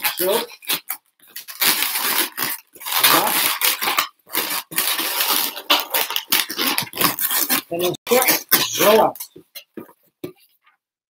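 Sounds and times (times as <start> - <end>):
balloons squeaking and rubbing: 0.0 - 10.5.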